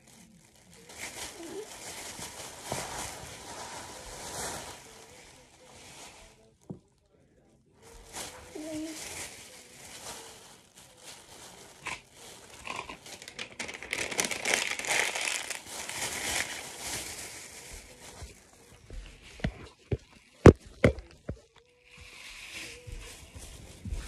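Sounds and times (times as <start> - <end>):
plastic bags and paper rustling: 0.0 - 24.0.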